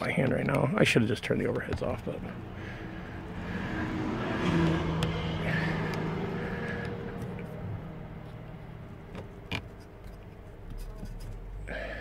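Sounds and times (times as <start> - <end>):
vehicle low hum: 1.0 - 12.0.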